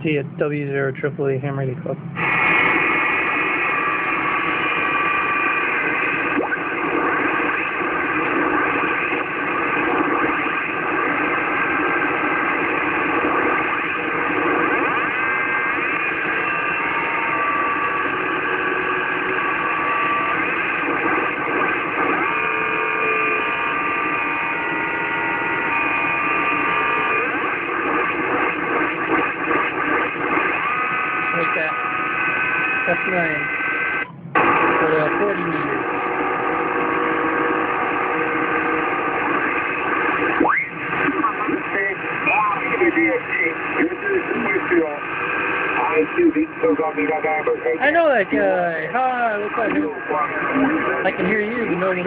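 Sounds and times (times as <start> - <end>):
radio static noise: 0.0 - 52.0
whistling radio tones: 1.6 - 52.0.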